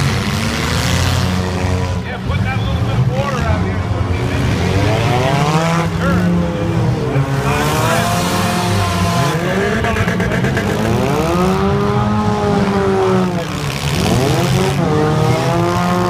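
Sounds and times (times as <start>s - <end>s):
car engines revving: 0.0s - 16.0s
low rumble of cars running: 0.0s - 16.0s.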